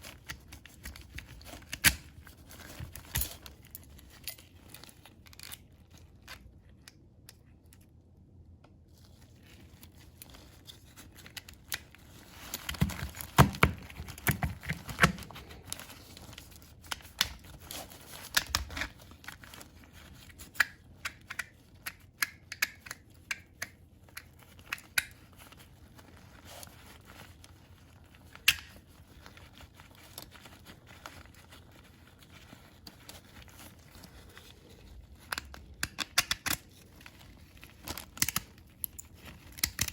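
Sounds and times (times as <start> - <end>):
hands handling small parts: 0.0 - 8.0, 9.0 - 39.9.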